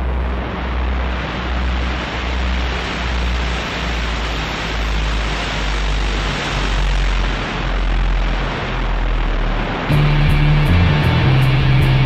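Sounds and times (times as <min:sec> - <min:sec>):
heavy low rumble: 0:00.0 - 0:12.0
road and wind noise in car: 0:00.0 - 0:12.0.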